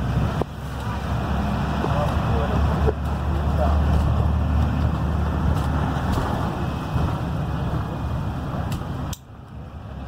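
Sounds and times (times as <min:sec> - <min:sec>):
diesel bus engine running: 0:00.0 - 0:10.0
road and tyre noise: 0:00.0 - 0:10.0.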